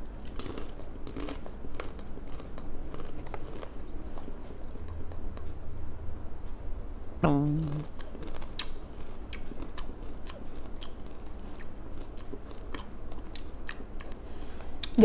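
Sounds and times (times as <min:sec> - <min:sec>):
person chewing crunchy snack: 0:00.2 - 0:05.4, 0:07.8 - 0:15.0.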